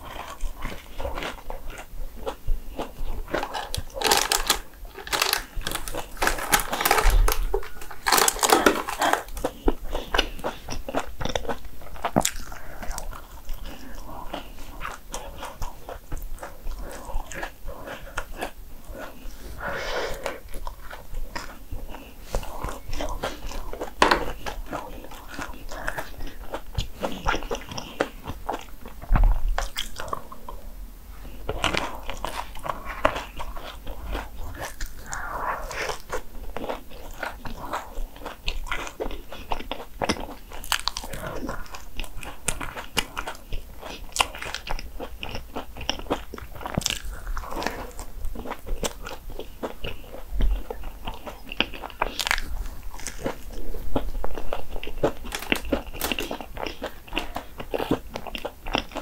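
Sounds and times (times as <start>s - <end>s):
crunchy waffle chewing: 0.0s - 59.0s.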